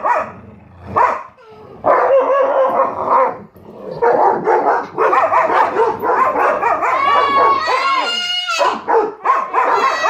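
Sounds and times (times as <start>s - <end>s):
dogs barking and howling: 0.0s - 10.0s.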